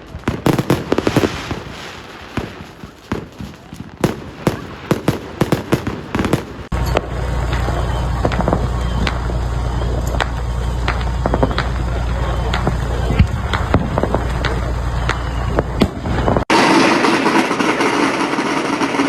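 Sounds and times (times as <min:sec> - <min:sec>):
steady low rumble: 0:00.0 - 0:16.4
fireworks cracking and banging: 0:00.0 - 0:19.0.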